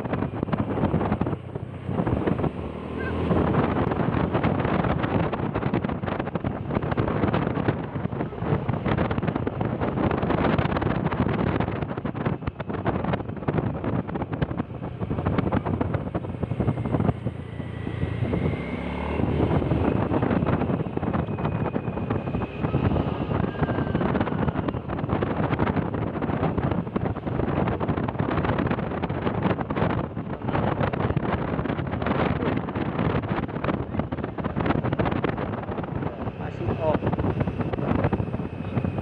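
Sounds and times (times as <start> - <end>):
engine and road noise: 0.0 - 39.0
wind rushing over microphone: 0.0 - 39.0.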